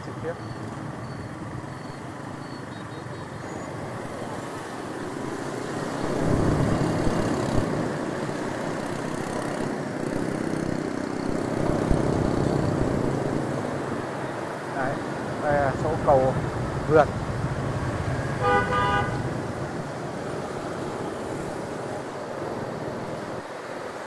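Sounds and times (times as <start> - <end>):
scooter and car traffic: 0.0 - 24.0.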